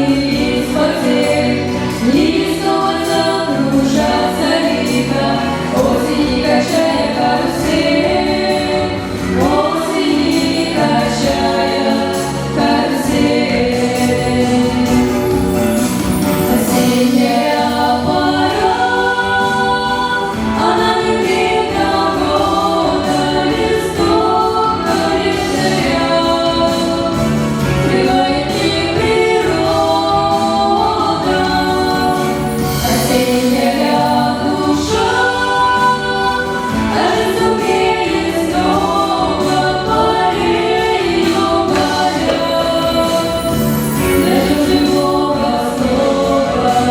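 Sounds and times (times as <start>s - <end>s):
group of people singing: 0.0s - 46.9s.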